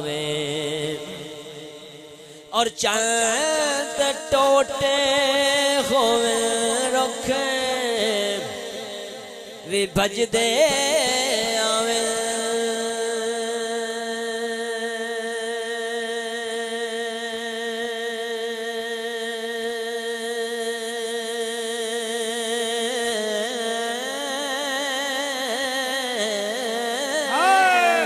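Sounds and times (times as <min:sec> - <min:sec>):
man singing: 0:00.0 - 0:28.0.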